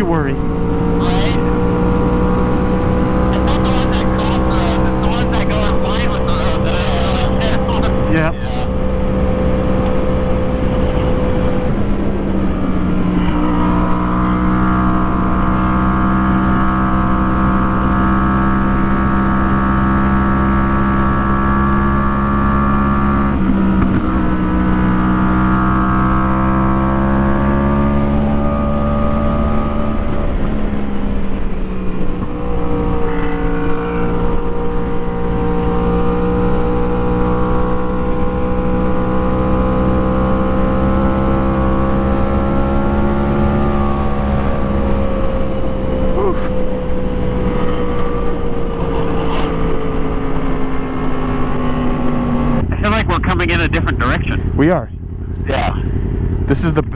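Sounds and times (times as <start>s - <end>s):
motorcycle engine at road speed: 0.0s - 53.1s, 53.8s - 56.9s
wind: 0.0s - 56.9s.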